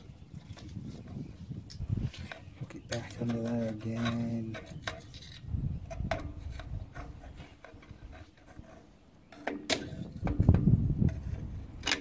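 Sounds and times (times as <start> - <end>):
metal clicks and scrapes: 0.4 - 12.0.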